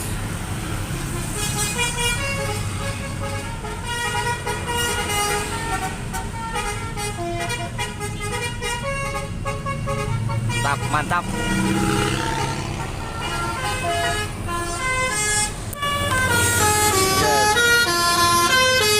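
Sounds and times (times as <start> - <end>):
bus engine rumble: 0.0 - 18.9
multi-tone air horns playing a tune: 1.2 - 18.9.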